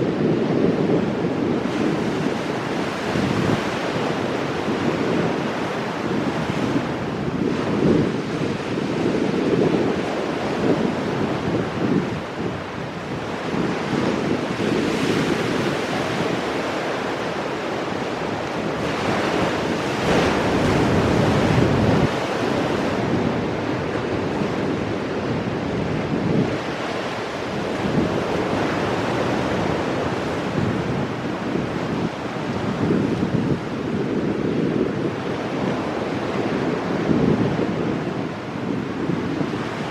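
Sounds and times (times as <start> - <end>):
wind buffeting microphone: 0.0 - 39.9
ocean waves breaking on rocks: 0.2 - 39.9.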